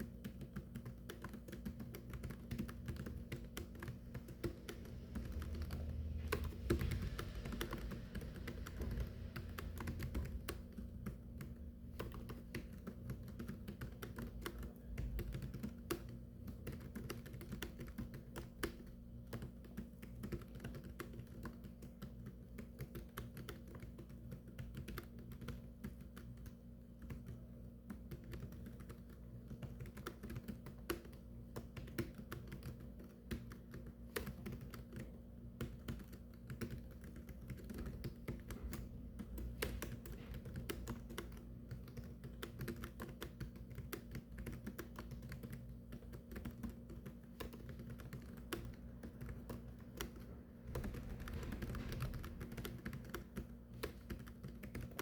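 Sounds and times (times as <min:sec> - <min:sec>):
fast keyboard typing: 0:00.0 - 0:55.0
steady low hum: 0:00.0 - 0:55.0.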